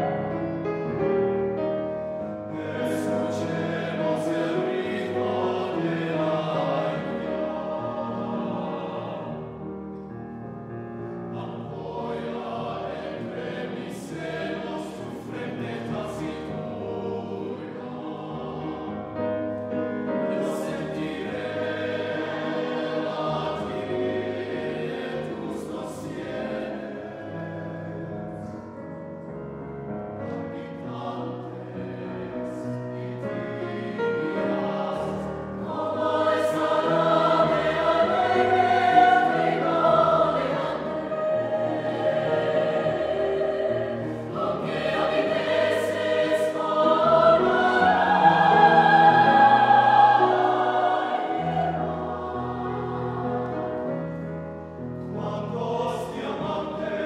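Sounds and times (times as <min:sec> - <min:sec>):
mixed choir singing: 0:01.7 - 0:09.8, 0:11.1 - 0:28.8, 0:30.2 - 0:57.0.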